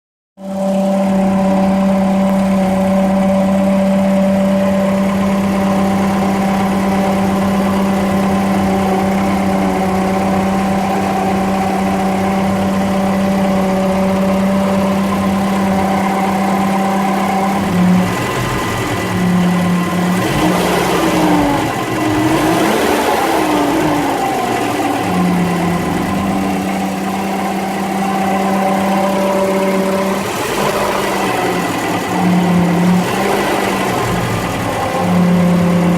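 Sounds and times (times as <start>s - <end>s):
car engine idling with whine: 0.4s - 35.9s.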